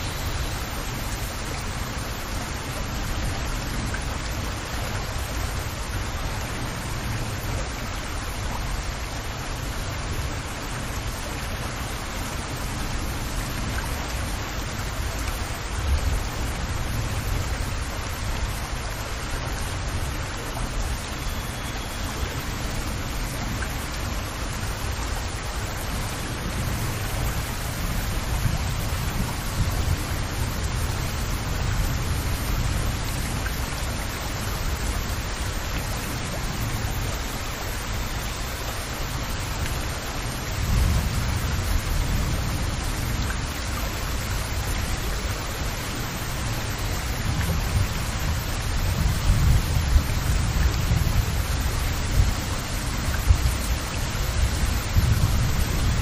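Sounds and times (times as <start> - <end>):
rain pattering on water: 0.0 - 56.0.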